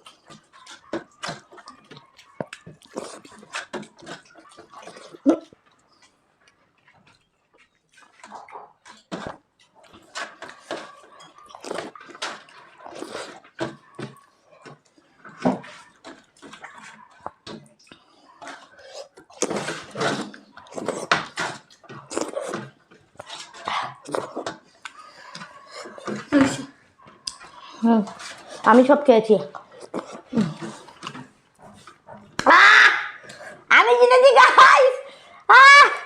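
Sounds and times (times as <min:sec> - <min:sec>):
lip smacks: 0:00.0 - 0:15.0, 0:15.9 - 0:28.7, 0:29.5 - 0:32.5, 0:33.1 - 0:33.7
slurping: 0:00.0 - 0:32.4, 0:33.0 - 0:33.7
chewing: 0:00.0 - 0:32.5, 0:33.1 - 0:33.7.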